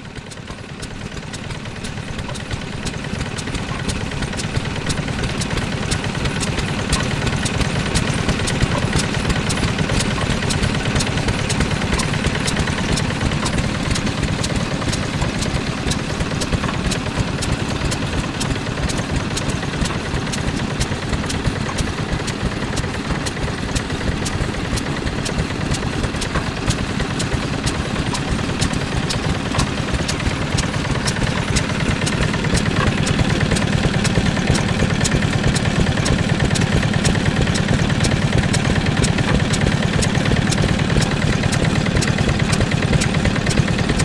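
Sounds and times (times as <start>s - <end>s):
diesel engine running: 0.0s - 44.0s
sharp engine ticks: 0.0s - 44.0s.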